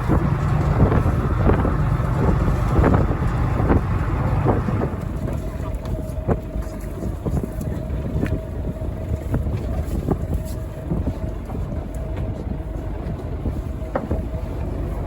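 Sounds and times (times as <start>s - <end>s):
boat engine rumbling: 0.0s - 15.0s
wind buffeting microphone: 0.0s - 15.0s.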